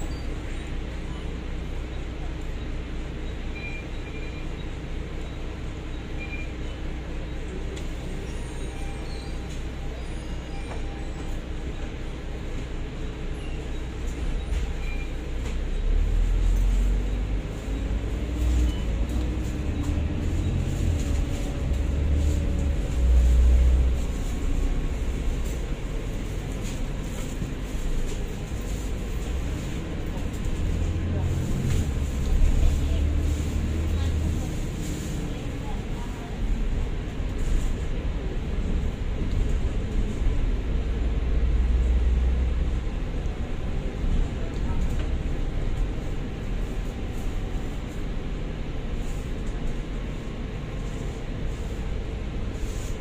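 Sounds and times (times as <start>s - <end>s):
bus drivetrain whine: 0.0s - 53.0s
bus engine rumbling: 0.0s - 53.0s.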